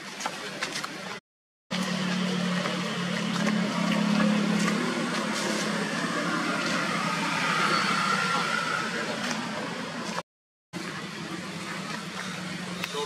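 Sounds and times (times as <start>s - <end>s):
engine running with low hum: 0.8s - 10.2s, 10.8s - 13.0s.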